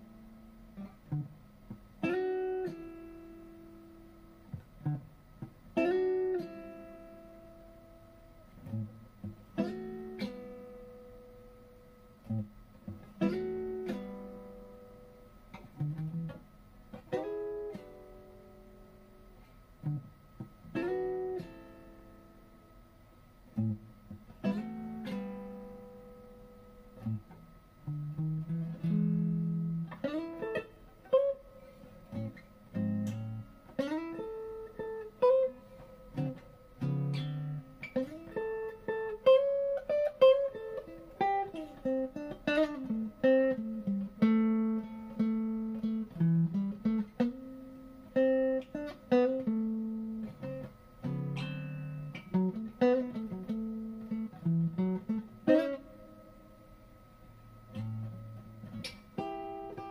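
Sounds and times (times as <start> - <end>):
slow blues guitar lead: 0.0 - 22.8, 23.4 - 59.9.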